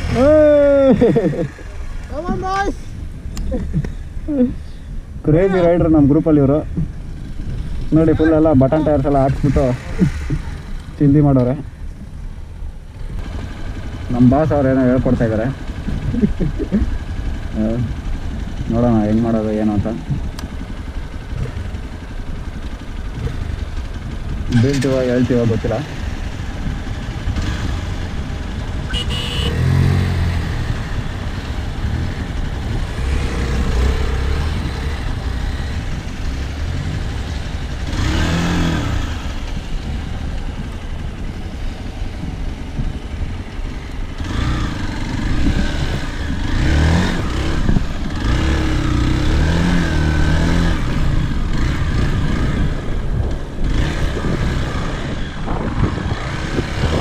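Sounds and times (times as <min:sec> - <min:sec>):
motorcycles revving: 0:00.0 - 0:57.0.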